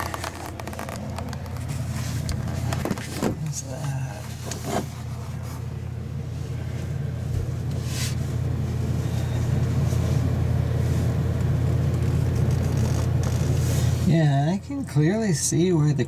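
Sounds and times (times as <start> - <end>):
motor humming: 0.0 - 14.1.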